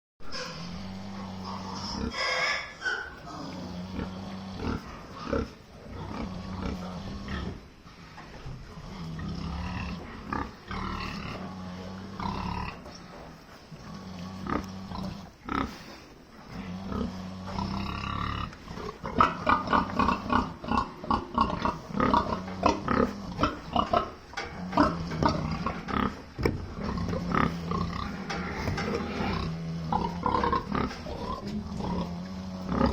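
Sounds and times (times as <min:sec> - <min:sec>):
pig snoring: 0:00.3 - 0:07.6, 0:08.7 - 0:12.9, 0:13.8 - 0:32.9.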